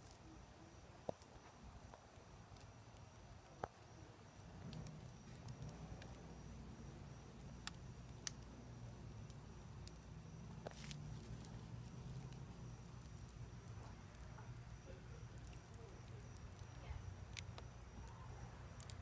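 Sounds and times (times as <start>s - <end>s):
embers ticking: 0.0s - 19.0s
faint low rumble: 0.0s - 19.0s
fire crackles and pops: 0.0s - 19.0s.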